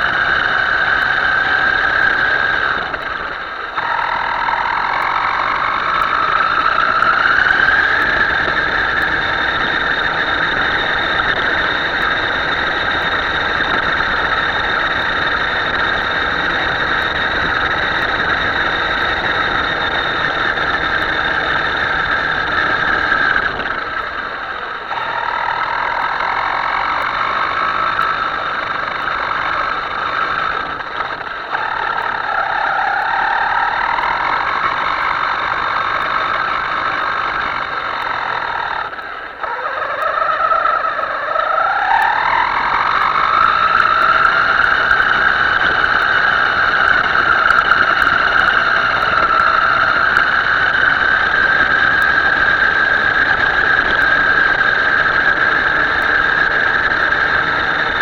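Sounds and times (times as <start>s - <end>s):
model boat motor whining: 0.0s - 58.0s.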